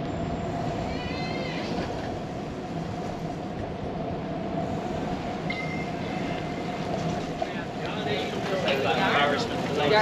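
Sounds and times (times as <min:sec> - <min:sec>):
bicycle rolling rumble and hiss: 0:00.0 - 0:10.0.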